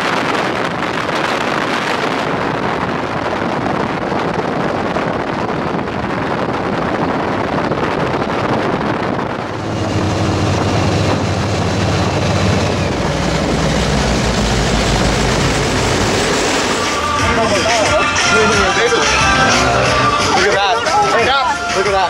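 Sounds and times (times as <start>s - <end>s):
powerboat engines droning: 0.0s - 22.0s
rushing water: 0.0s - 22.0s
wind buffeting microphone: 0.0s - 22.0s.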